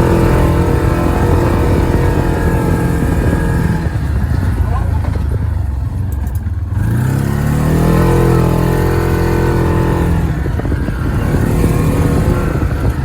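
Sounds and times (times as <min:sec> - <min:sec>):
utility vehicle engine revving: 0:00.0 - 0:13.0.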